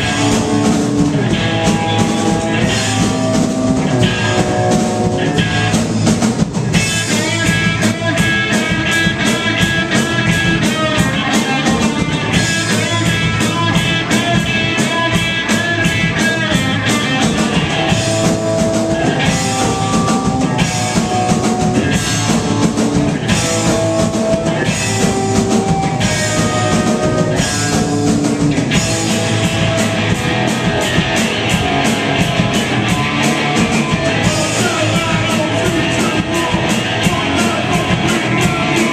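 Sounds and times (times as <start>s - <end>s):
drum kit beat: 0.0s - 38.9s
electric guitars: 0.0s - 38.9s.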